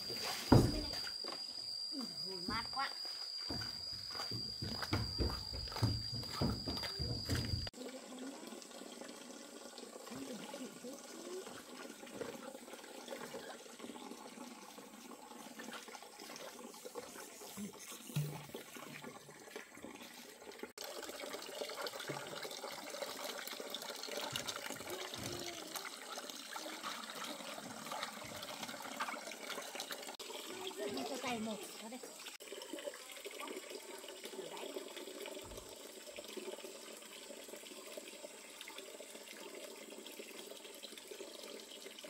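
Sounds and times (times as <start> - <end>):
water running and splashing: 2.2 - 42.0.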